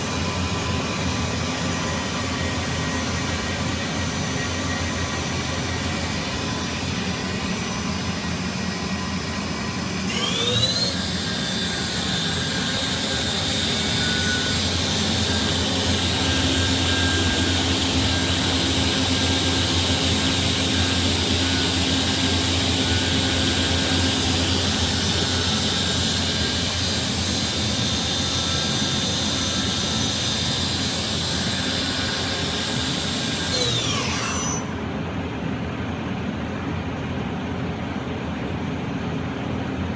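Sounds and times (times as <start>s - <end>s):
machine spindle whining: 0.0s - 34.9s.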